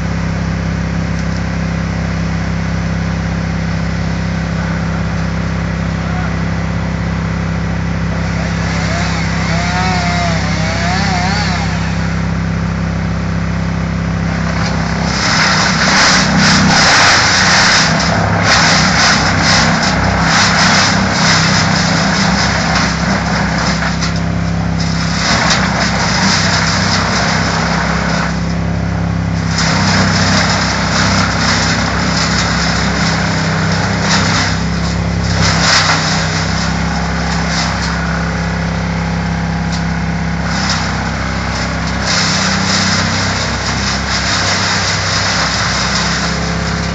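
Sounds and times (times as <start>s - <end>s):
material going through chipper: 0.0s - 46.9s
wood chipper engine running: 0.0s - 46.9s.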